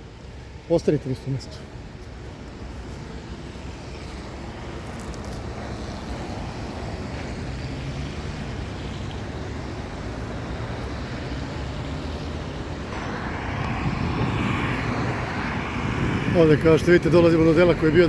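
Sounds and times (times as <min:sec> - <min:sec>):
low rumble of traffic: 0:00.0 - 0:18.0
vehicle approaching: 0:03.0 - 0:18.0.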